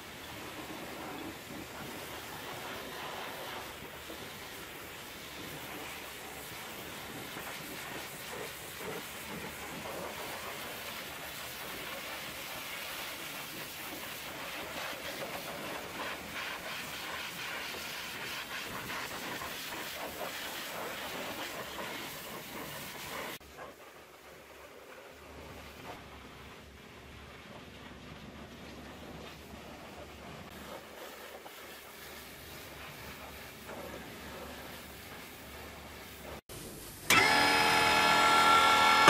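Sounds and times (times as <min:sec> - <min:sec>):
pressure washer spraying on metal: 0:00.0 - 0:39.0.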